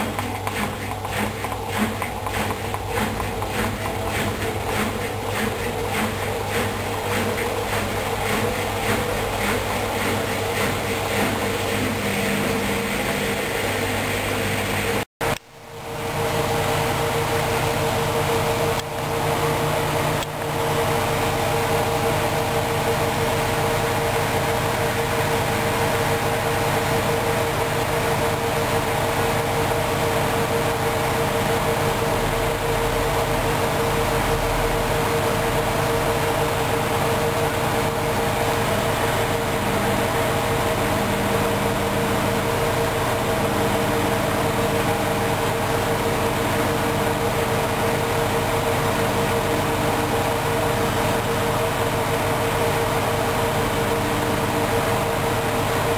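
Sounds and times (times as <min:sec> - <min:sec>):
washing machine spinning: 0:00.0 - 0:55.9.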